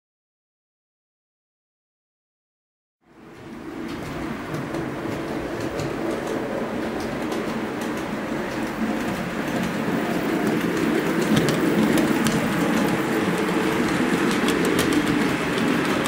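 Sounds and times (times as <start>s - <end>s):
model train rumbling on track: 3.1s - 16.0s.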